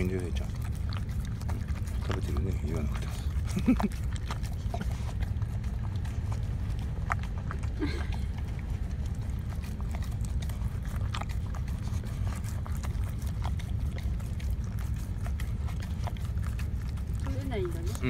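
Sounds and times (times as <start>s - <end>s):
dog lapping liquid: 0.0s - 18.0s
low rumble: 0.0s - 18.0s.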